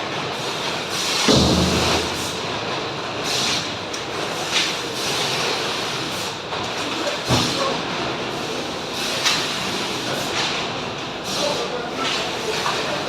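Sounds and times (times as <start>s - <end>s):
industrial machinery noise: 0.0s - 13.0s.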